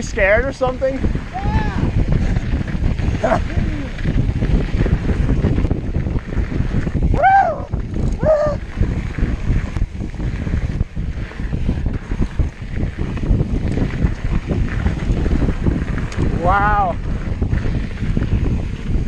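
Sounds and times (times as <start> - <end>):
low rumble: 0.0 - 19.0
wind buffeting microphone: 0.0 - 19.0.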